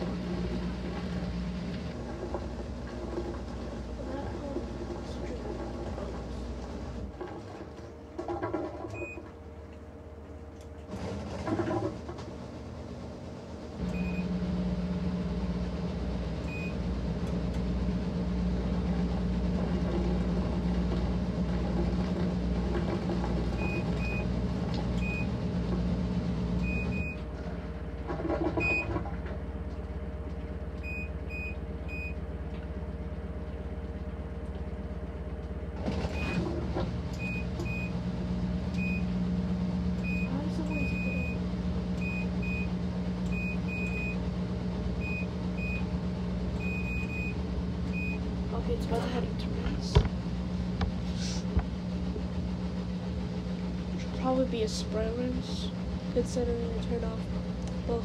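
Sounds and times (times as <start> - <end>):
washing machine motor humming: 0.0 - 58.0.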